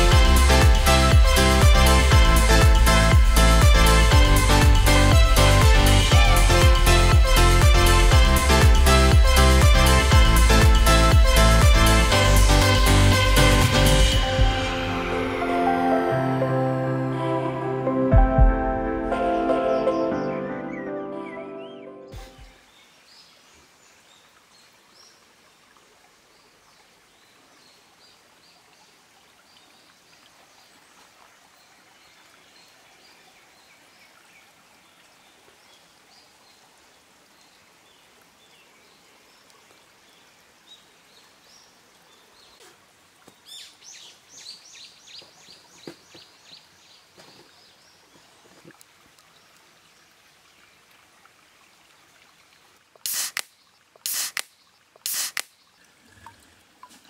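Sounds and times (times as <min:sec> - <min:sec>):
mountain stream running: 0:00.0 - 0:17.8, 0:22.2 - 0:57.0.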